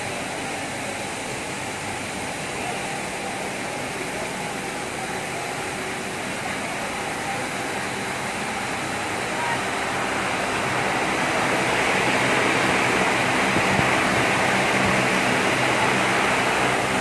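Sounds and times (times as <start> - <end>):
production machine running: 0.0 - 17.0.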